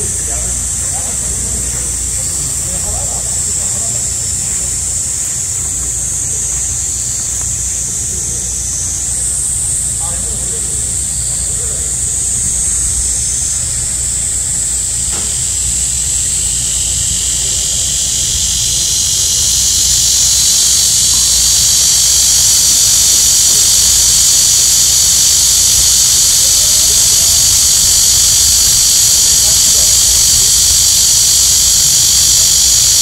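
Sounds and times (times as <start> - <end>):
cicadas buzzing: 0.0 - 33.0.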